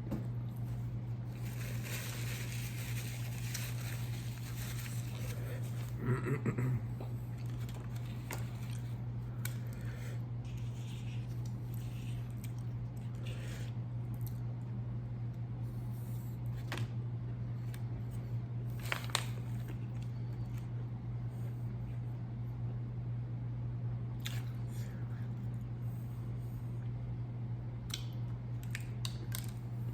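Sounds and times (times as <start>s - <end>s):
low electrical hum: 0.0s - 29.9s.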